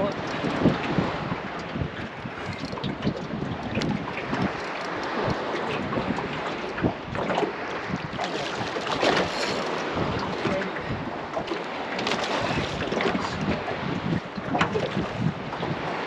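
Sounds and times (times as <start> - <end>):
water splashing around boat: 0.0 - 16.0
wind buffeting microphone: 0.0 - 16.0.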